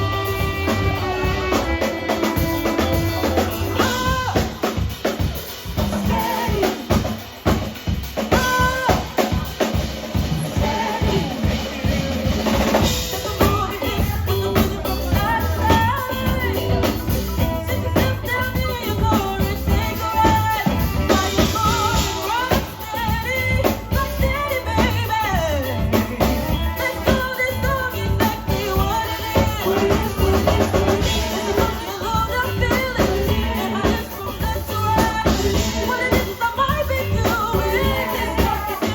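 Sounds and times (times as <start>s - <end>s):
live band playing: 0.0s - 38.9s.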